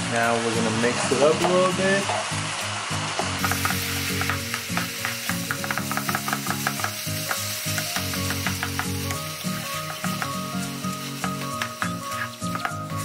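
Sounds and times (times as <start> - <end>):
meat sauce sizzling in a pan: 0.0 - 13.0.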